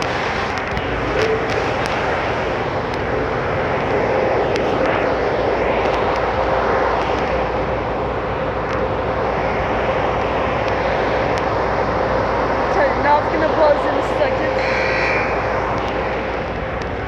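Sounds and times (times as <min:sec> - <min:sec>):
car wash rushing noise: 0:00.0 - 0:17.0
constant hum: 0:00.0 - 0:17.0.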